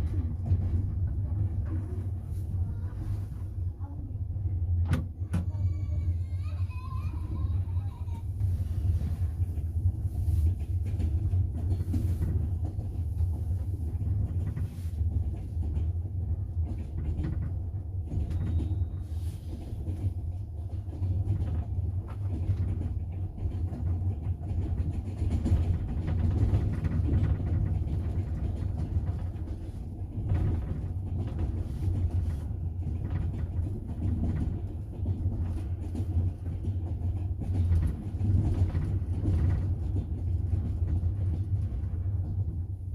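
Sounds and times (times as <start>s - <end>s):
train rumbling: 0.0s - 42.9s
wheels clicking on rails: 0.0s - 42.9s.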